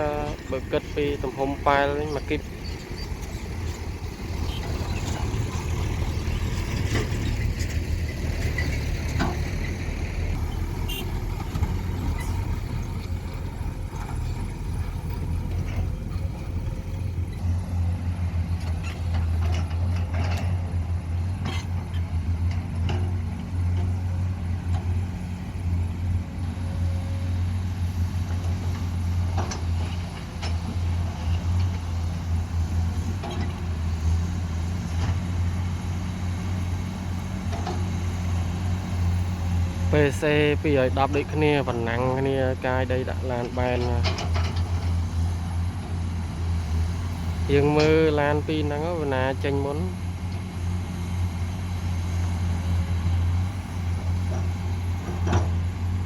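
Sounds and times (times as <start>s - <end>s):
excavator diesel engine droning: 0.0s - 56.0s.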